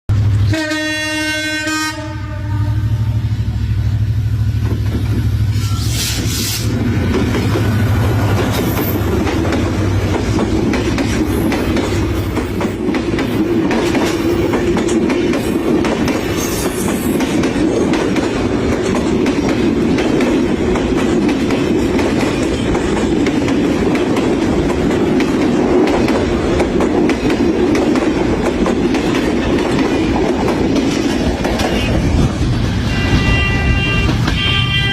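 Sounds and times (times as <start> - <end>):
deep train rumble: 0.1 - 34.9
train wheels clattering over rails: 4.4 - 34.5.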